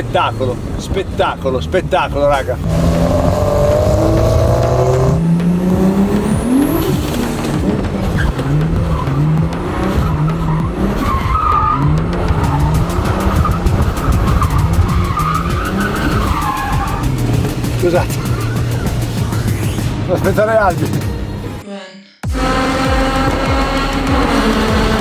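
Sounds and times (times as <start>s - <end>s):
car engine revving: 0.0s - 21.6s, 22.3s - 25.0s
road noise: 0.0s - 21.6s, 22.3s - 25.0s.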